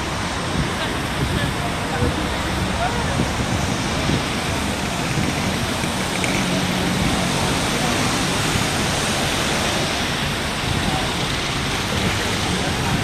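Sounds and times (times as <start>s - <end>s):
city street traffic: 0.0s - 13.0s
wind on microphone: 0.0s - 13.0s.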